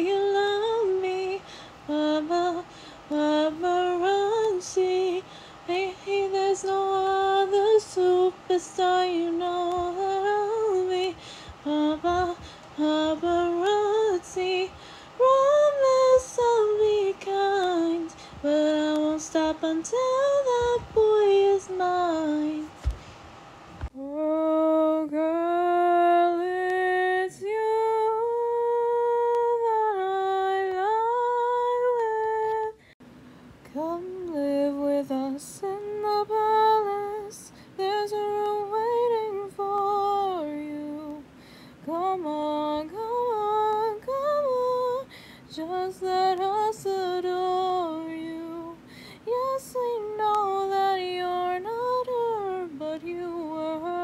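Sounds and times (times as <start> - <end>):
woman singing unaccompanied: 0.0 - 22.8, 23.9 - 33.0, 33.6 - 54.0.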